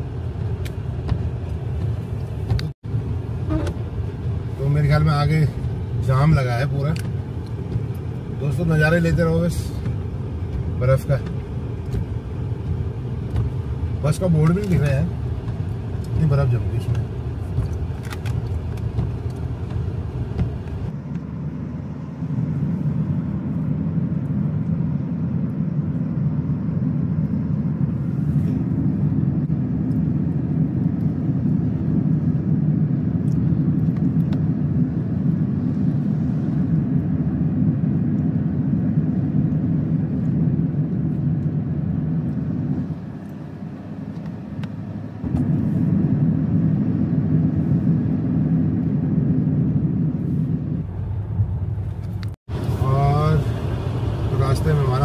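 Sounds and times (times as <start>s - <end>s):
car interior engine and road rumble: 0.0s - 55.0s.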